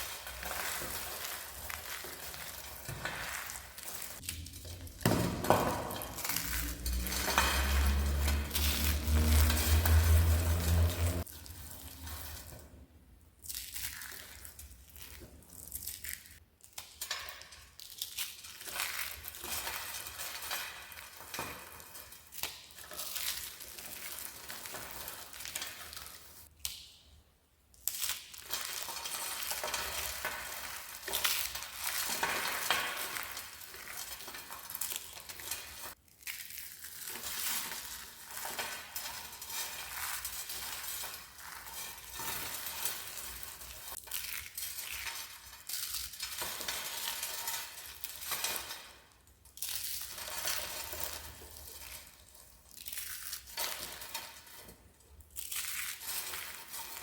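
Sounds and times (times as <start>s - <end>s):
soap crushing and crackling: 0.0s - 12.6s, 13.2s - 27.0s, 27.7s - 57.0s.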